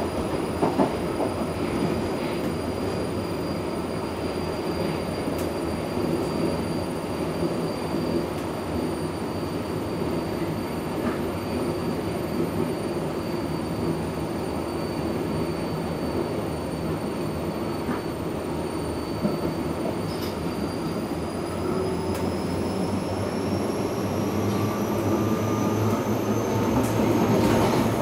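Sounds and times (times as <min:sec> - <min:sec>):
train wheels rumbling on rails: 0:00.0 - 0:08.9, 0:10.0 - 0:13.1, 0:15.0 - 0:28.0.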